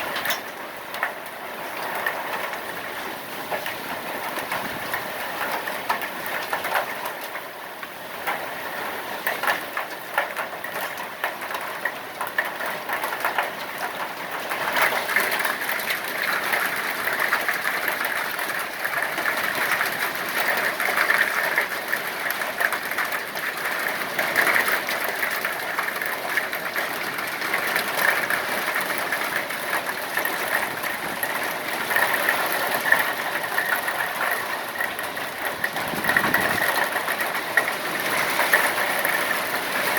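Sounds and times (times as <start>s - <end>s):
hail rattling on hard surfaces: 0.0s - 39.9s.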